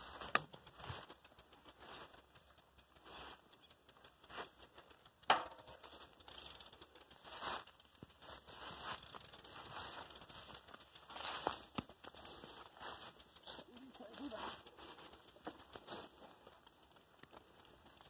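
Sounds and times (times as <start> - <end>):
rustling through dry grass: 0.0 - 18.0.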